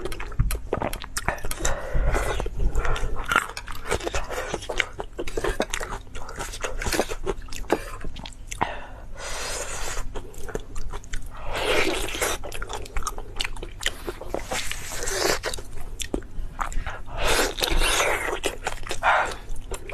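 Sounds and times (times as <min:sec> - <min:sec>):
crunchy chewing: 0:00.0 - 0:08.6, 0:09.5 - 0:19.9.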